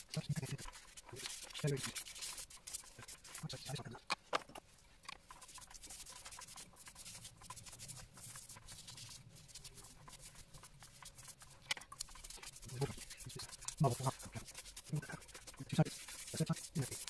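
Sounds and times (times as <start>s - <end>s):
scouring pad rubbing strokes: 0.0s - 4.0s, 4.8s - 17.0s.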